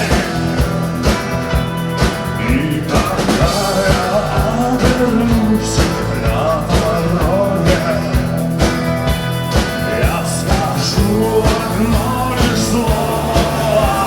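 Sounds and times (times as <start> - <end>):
person singing: 0.0 - 8.6, 9.7 - 14.0
drum kit beat: 0.0 - 14.0
guitars and bass: 0.0 - 14.0.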